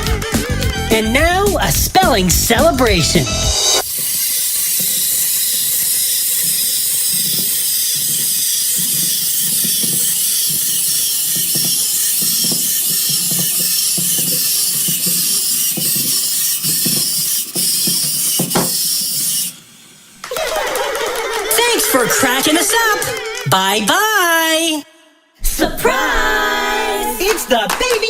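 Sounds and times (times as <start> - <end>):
steady loud hiss: 0.0 - 23.2.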